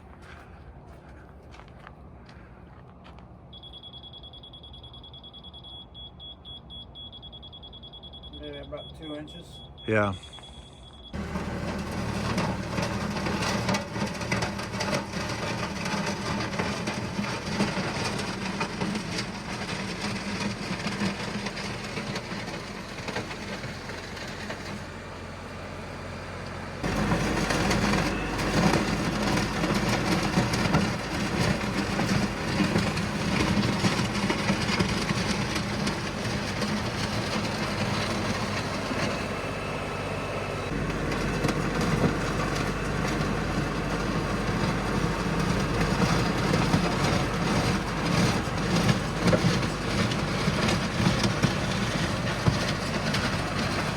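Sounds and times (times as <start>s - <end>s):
tractor diesel engine running: 3.1s - 53.9s.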